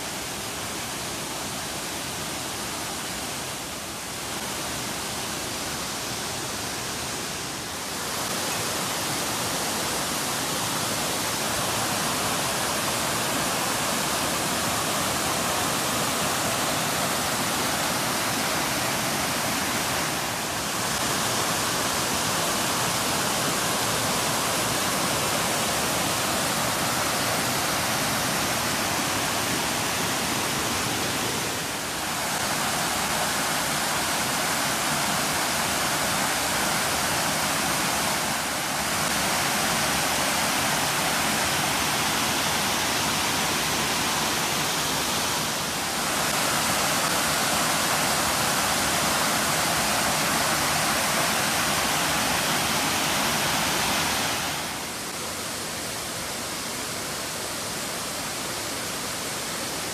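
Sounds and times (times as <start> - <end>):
waterfall rushing over rock: 0.0 - 59.9.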